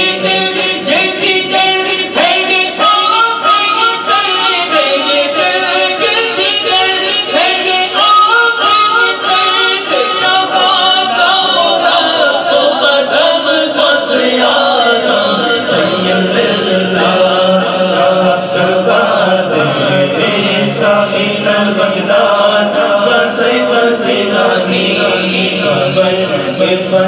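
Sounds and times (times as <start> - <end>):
men singing unaccompanied: 0.0 - 27.0.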